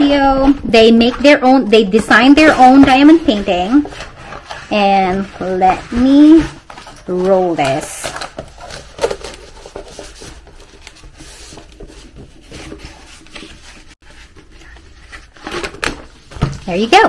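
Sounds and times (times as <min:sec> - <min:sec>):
plastic rustling and crinkling: 0:02.2 - 0:17.0.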